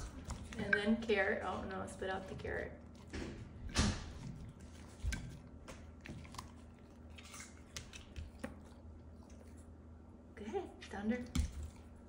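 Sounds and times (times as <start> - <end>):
dog chewing vegetables: 0.0 - 10.0.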